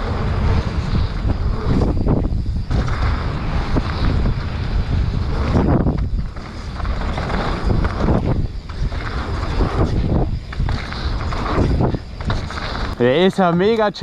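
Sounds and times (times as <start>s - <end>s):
bike tyres rolling on dirt trail: 0.0s - 14.0s
wind buffeting microphone: 0.0s - 14.0s.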